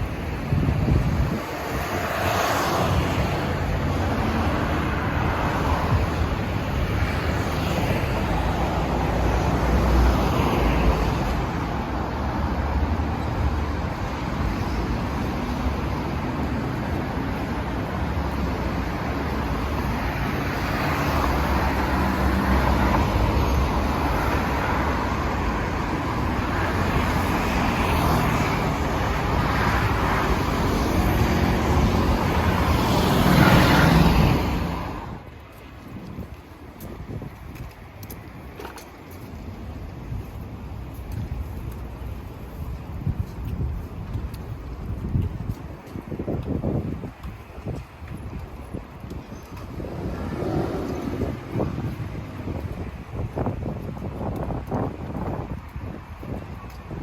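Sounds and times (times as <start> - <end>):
cars passing: 0.0 - 57.0
road noise rumble: 0.0 - 57.0.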